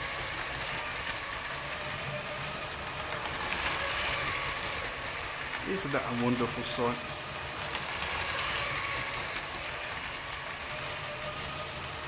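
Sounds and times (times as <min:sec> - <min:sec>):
toy train motor whirring: 0:00.0 - 0:12.0
wheels clattering over plastic track: 0:00.0 - 0:12.0.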